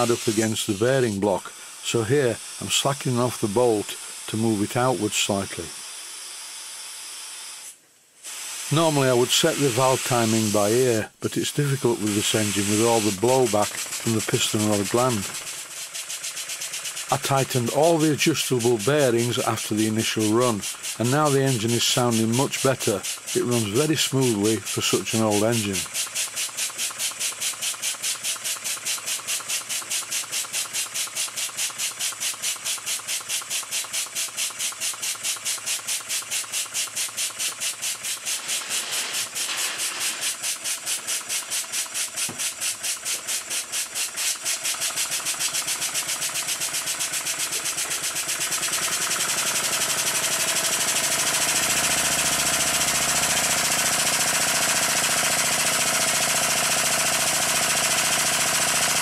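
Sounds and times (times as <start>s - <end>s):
steam engine exhaust beats: 0.0s - 5.7s, 8.3s - 59.0s.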